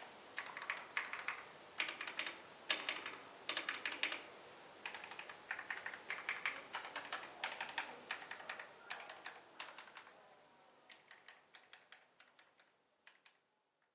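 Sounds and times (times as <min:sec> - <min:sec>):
mechanical keyboard typing: 0:00.0 - 0:10.1, 0:10.9 - 0:13.4.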